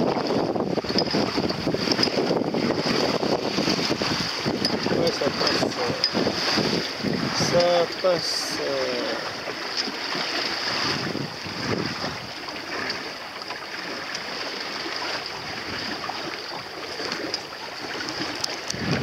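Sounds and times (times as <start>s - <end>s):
water rushing along hull: 0.0s - 19.0s
wind: 0.0s - 19.0s.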